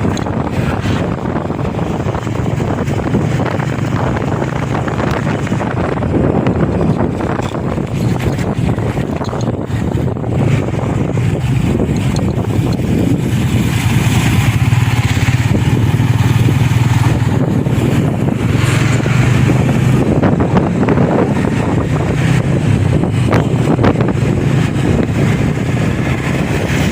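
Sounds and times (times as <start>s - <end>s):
vehicle engine hum: 0.0s - 26.9s
wind buffeting microphone: 0.0s - 26.9s.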